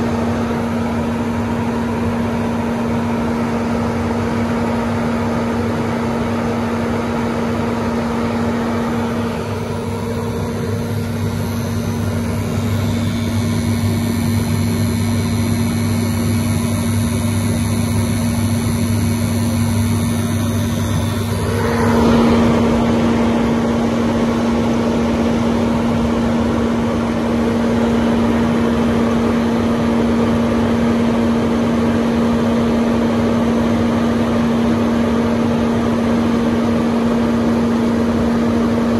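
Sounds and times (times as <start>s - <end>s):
burner and blower fan hum: 0.0s - 38.9s
high whine: 0.0s - 38.9s
low buzz: 0.0s - 38.9s.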